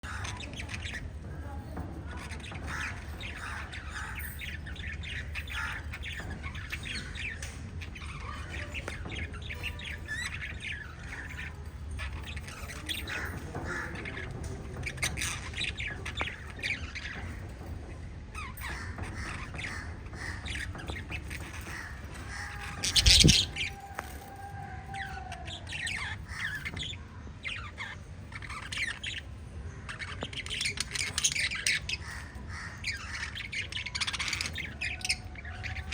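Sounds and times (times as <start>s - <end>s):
parrots chirping and squawking: 0.0s - 35.9s.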